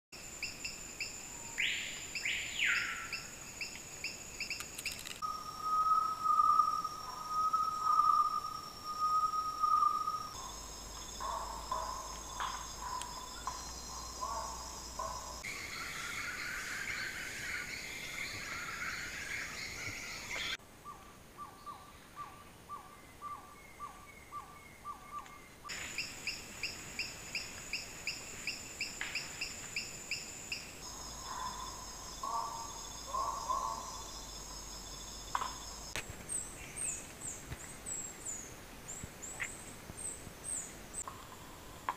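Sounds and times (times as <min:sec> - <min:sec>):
high insect trill: 0:00.2 - 0:20.6, 0:25.7 - 0:41.7.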